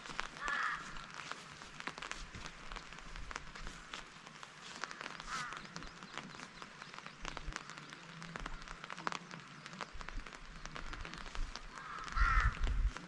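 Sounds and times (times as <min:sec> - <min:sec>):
rain drops ticking: 0:00.0 - 0:13.0.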